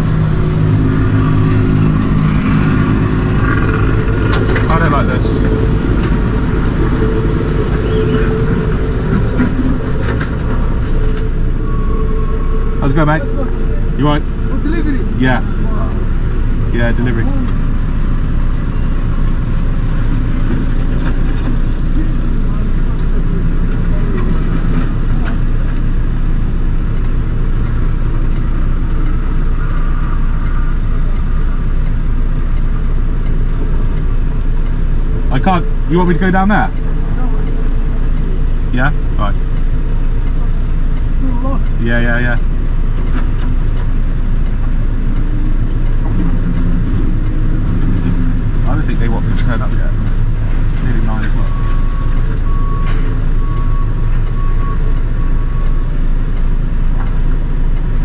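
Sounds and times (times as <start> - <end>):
truck diesel engine rumbling: 0.0 - 58.0.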